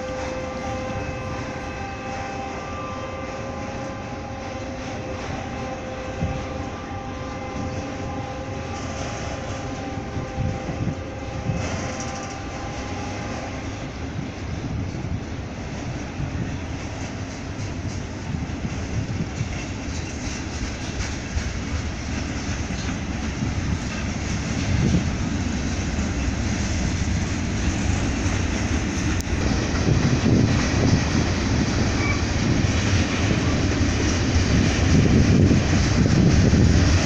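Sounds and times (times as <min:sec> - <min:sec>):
clickety-clack over rail joints: 0:03.2 - 0:37.0.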